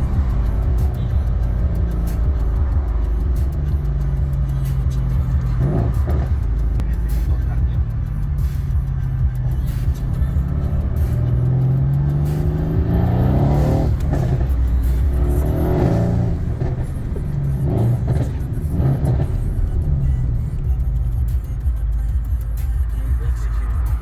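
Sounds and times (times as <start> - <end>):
car engine revving: 0.0 - 24.0
music: 0.0 - 24.0.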